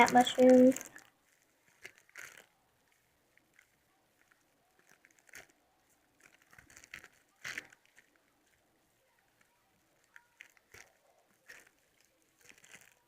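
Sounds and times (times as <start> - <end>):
faint handling rustles: 0.0 - 13.0.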